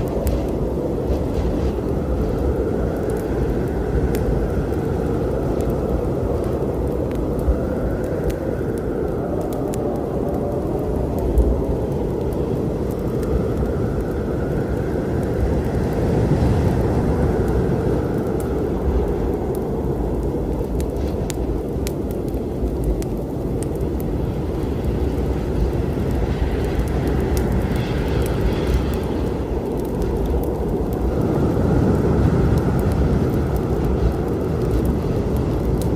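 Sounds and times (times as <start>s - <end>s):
low storm rumble: 0.0s - 35.9s
wood fire crackling: 0.0s - 35.9s.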